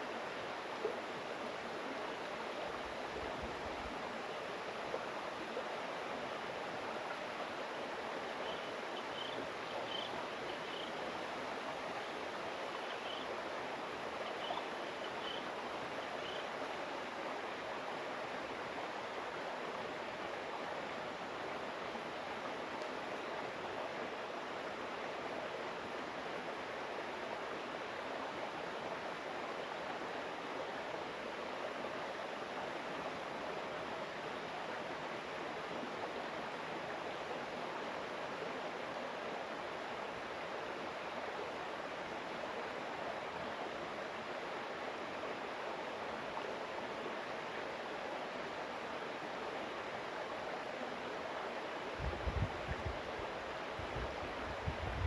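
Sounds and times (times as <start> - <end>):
water rushing: 0.0 - 54.8.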